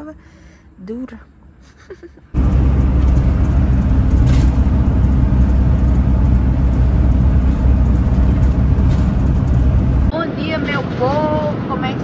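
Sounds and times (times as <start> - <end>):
engine and road noise rumble: 2.3 - 12.0.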